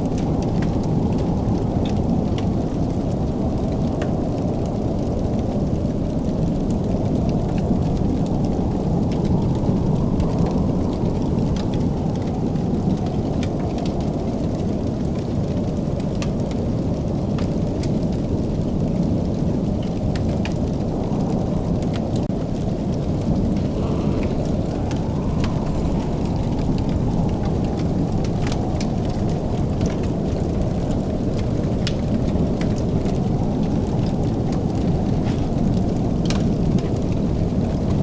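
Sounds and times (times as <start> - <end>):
low roar of fire: 0.0 - 38.0
wood fire crackling: 0.1 - 38.0.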